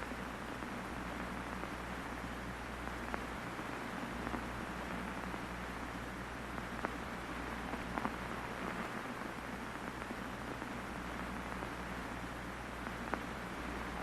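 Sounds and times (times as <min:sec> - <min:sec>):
film projector crackling hiss: 0:00.0 - 0:14.0.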